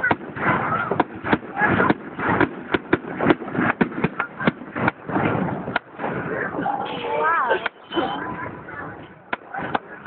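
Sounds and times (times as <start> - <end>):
firework bangs and cracks: 0.0 - 10.0
rumbling firework bursts: 0.0 - 10.0.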